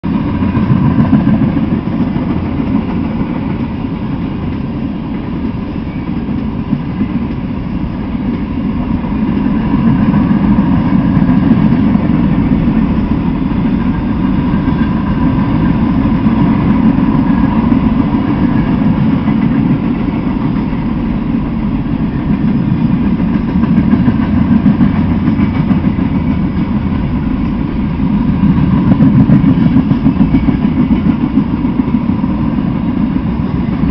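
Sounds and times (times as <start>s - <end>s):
freight train rumbling: 0.0s - 33.9s.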